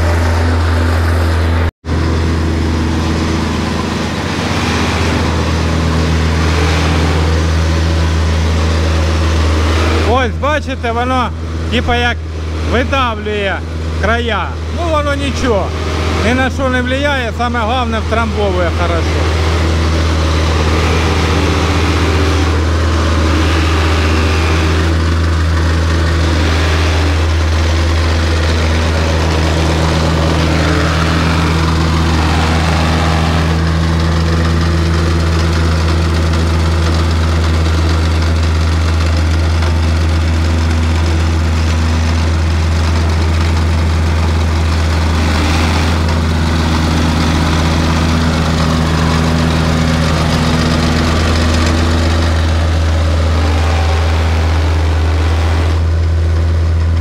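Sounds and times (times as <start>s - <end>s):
plate compactor running: 0.0s - 57.0s.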